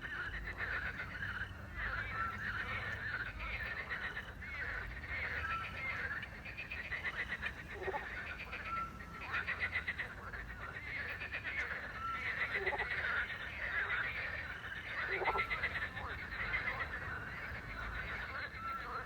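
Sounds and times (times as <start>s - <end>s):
frogs croaking: 0.0s - 19.0s.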